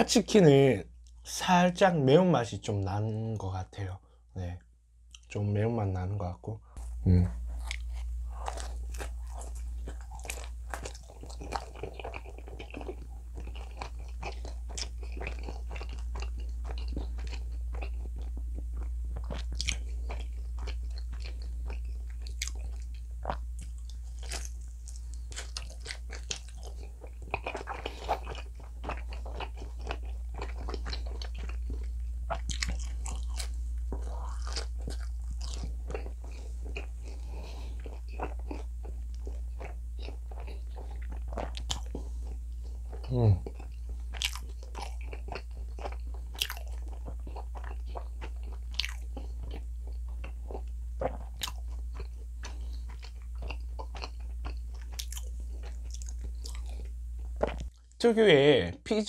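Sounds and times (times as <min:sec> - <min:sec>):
steady low hum: 0:00.0 - 0:59.0
crunchy pizza crust chewing: 0:07.4 - 0:57.8.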